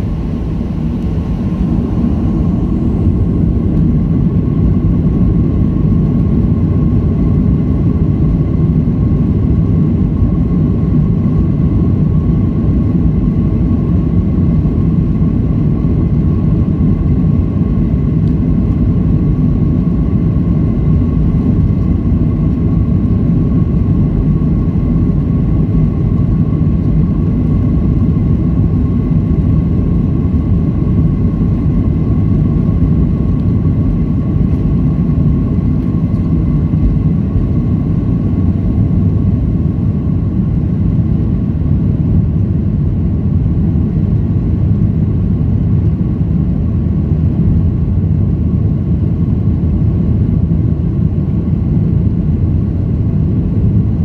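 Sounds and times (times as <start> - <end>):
jet engine deep rumble: 0.0 - 54.0
jet engine whine: 0.0 - 54.0.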